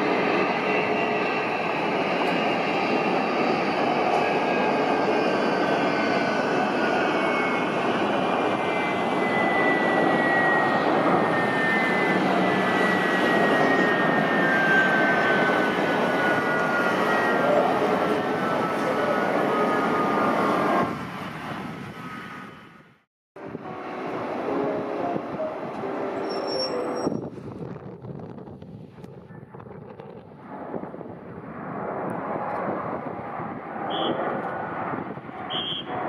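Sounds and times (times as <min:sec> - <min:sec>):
jet engines at takeoff power: 0:00.0 - 0:36.0.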